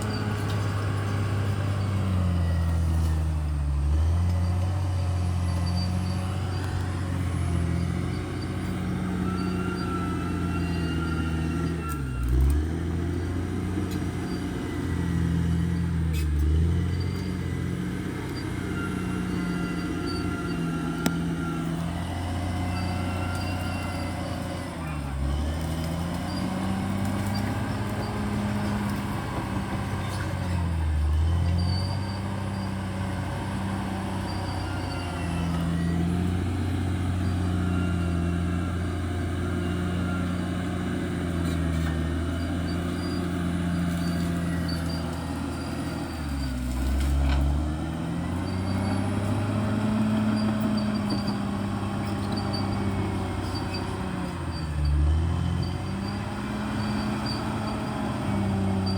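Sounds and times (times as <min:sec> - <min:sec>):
bulldozer diesel engine under load: 0:00.0 - 0:58.9.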